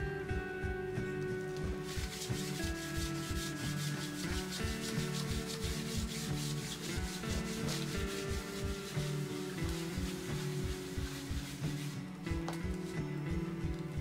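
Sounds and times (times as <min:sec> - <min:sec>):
background music with steady beat: 0:00.0 - 0:14.0
cloth rubbing wood: 0:01.4 - 0:13.2.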